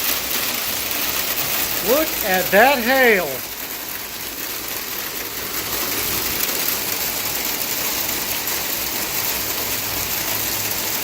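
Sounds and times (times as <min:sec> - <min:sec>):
hail and rain pelting down: 0:00.0 - 0:11.0.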